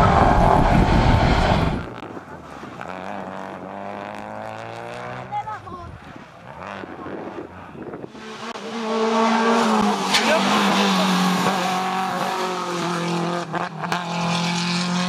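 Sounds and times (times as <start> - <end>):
rally car engine at high revs: 0.0 - 5.6, 6.2 - 15.0.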